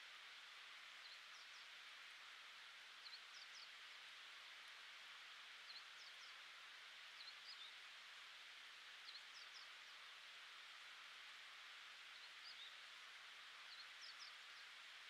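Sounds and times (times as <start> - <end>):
soft background hiss: 0.0 - 15.0.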